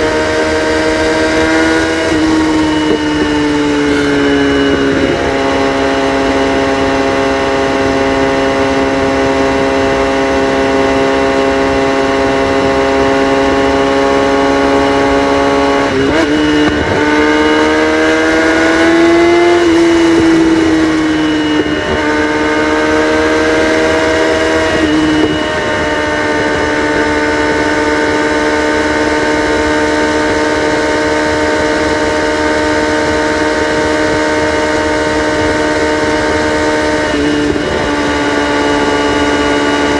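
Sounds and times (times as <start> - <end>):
loud unmuffled motorcycle exhaust: 0.0 - 39.9.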